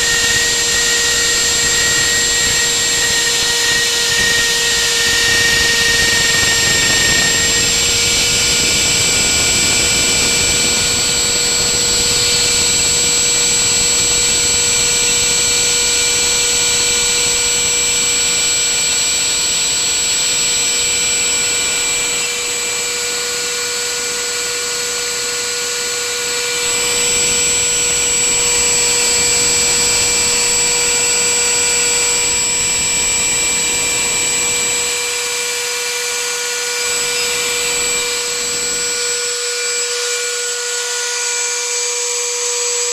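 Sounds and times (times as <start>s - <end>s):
router bit cutting wood: 0.0s - 42.9s
router spindle high whine: 0.0s - 42.9s.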